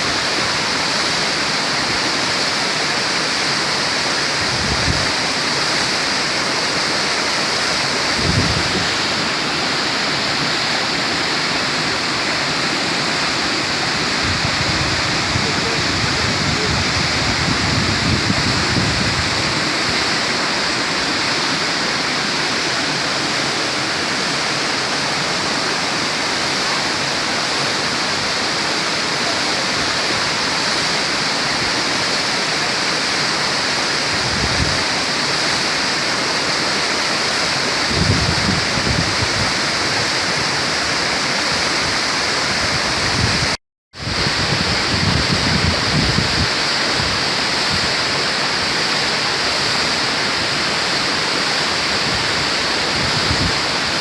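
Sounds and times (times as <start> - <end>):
waterfall rushing over rock: 0.0 - 54.0.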